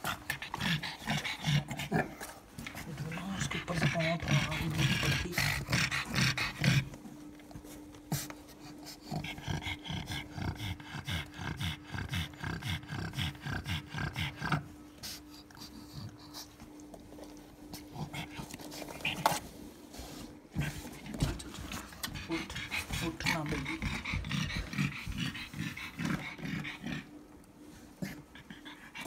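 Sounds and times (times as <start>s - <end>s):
dog panting quickly: 0.0s - 7.0s, 7.6s - 16.8s, 20.5s - 27.2s, 27.9s - 29.0s.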